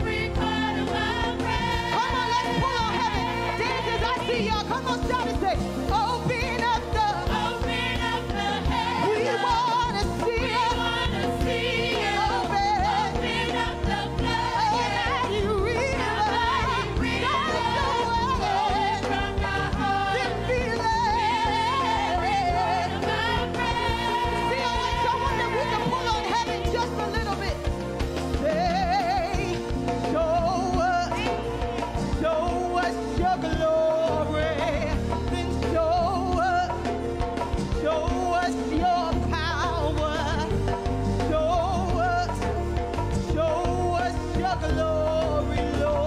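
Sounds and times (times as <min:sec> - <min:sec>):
instrumental backing: 0:00.0 - 0:46.0
women singing gospel: 0:00.0 - 0:46.0.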